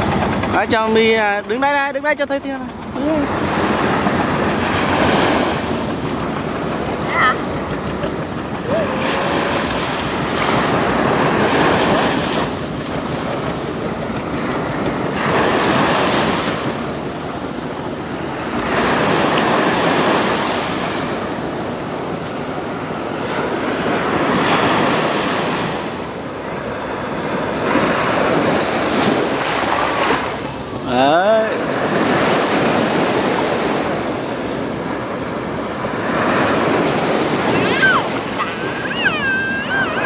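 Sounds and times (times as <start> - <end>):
sea waves breaking on beach: 0.0 - 40.0.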